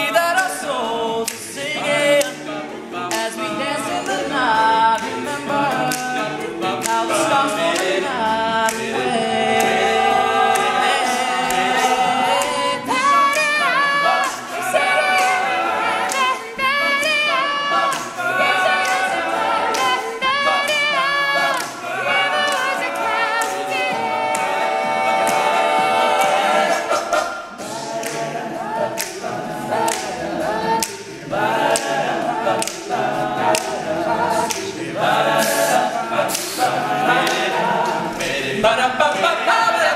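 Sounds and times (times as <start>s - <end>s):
male a cappella group singing: 0.0s - 39.9s.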